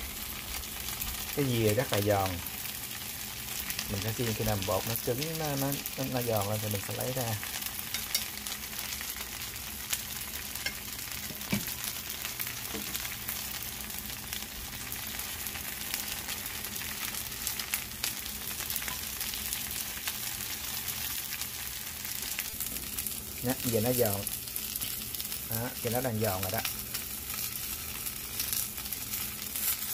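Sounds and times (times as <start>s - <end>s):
pancake sizzling in a skillet: 0.0s - 29.9s.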